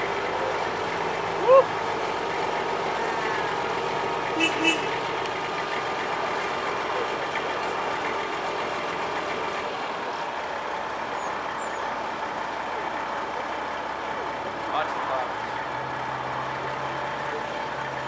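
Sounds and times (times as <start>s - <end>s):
truck engine running steadily: 0.0s - 18.0s.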